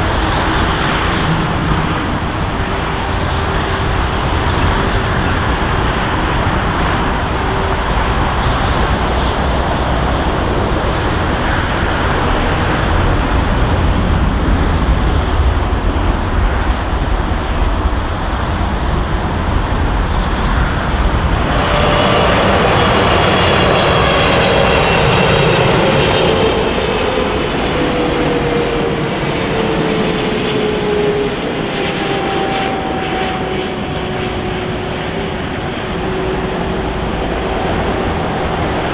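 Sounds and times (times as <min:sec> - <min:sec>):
jet engine whine falling in pitch: 0:00.0 - 0:38.9
jet engines roaring: 0:00.0 - 0:38.9.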